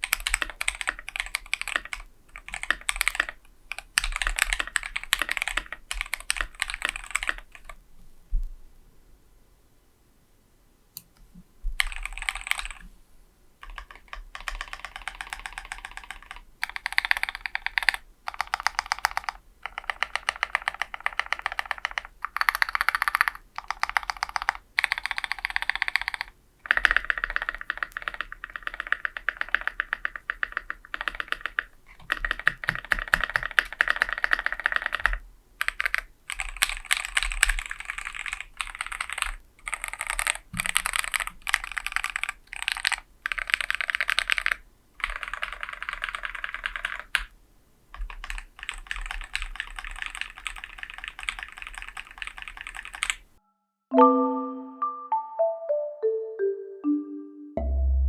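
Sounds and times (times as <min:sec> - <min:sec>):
fast typing on mechanical keyboard: 0:00.0 - 0:07.8, 0:11.8 - 0:12.8, 0:13.6 - 0:47.3, 0:47.9 - 0:53.3.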